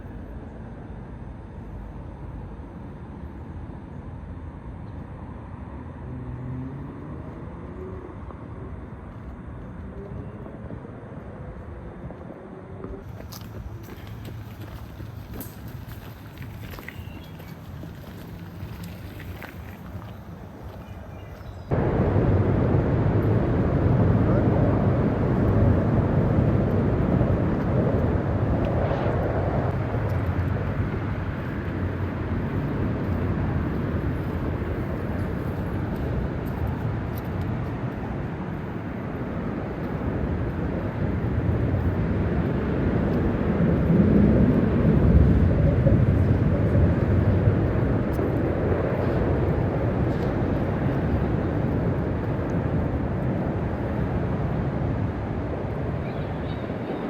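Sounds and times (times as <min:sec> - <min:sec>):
low rumbling noise: 0:00.0 - 0:57.0.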